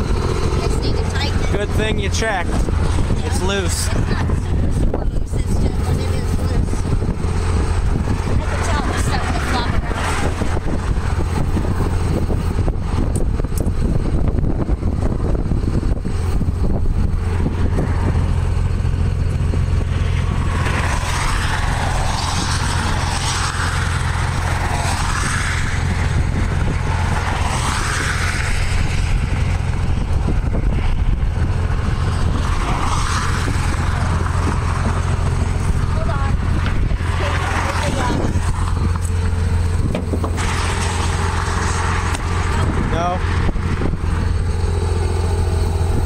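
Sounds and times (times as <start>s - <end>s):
vehicle engine rumble: 0.0s - 46.0s.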